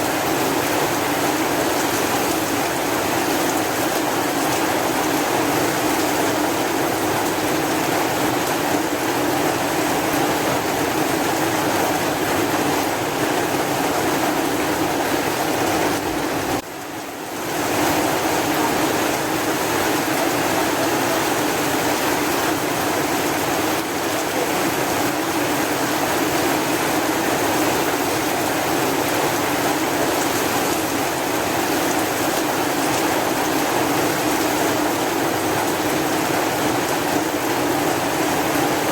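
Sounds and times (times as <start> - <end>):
dense rainfall hiss: 0.0 - 38.9.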